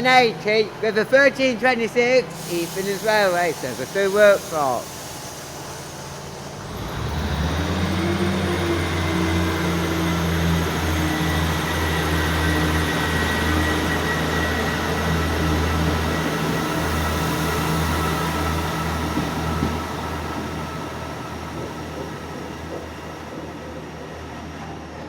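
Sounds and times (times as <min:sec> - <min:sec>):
diesel train engines droning: 0:00.0 - 0:25.0.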